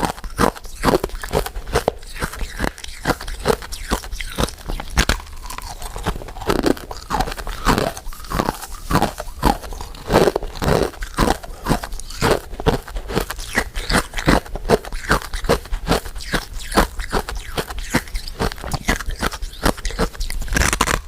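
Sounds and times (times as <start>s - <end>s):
mouth clicks: 0.0s - 12.5s, 13.1s - 21.0s
person crunching sweets: 0.0s - 21.0s.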